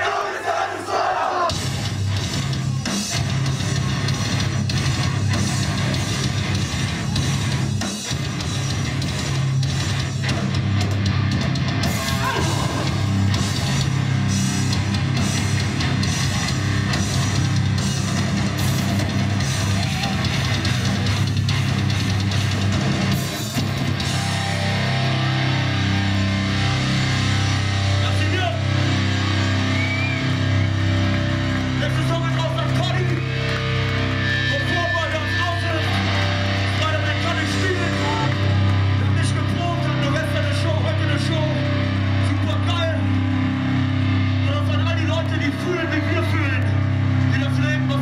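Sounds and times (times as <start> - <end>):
drum kit pounding: 1.4 - 48.0
electric guitars: 1.5 - 48.0.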